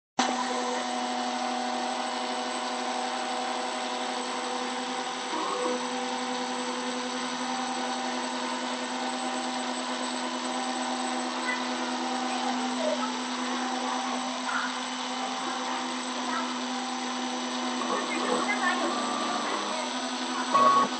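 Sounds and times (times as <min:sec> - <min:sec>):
router spindle humming: 0:00.2 - 0:20.9.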